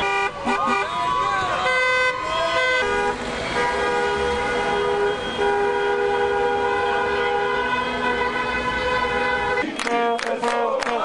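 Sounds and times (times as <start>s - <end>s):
many car horns honking: 0.0s - 11.0s.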